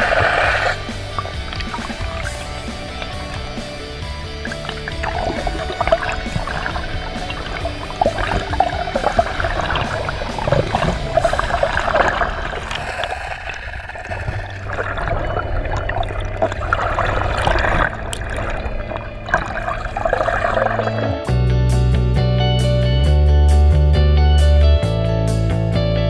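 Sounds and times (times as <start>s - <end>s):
irregular crackle: 0.0s - 21.2s
steady low hum: 0.0s - 21.2s
muffled water sloshing: 0.0s - 21.3s.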